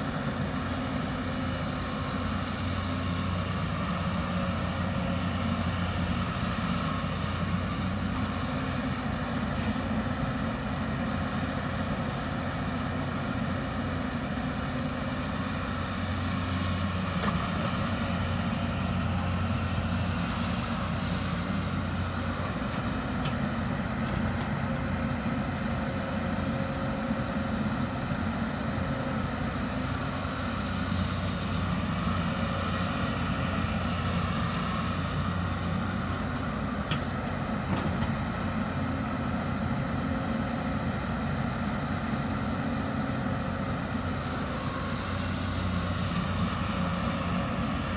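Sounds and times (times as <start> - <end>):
excavator diesel engine droning: 0.0 - 47.9.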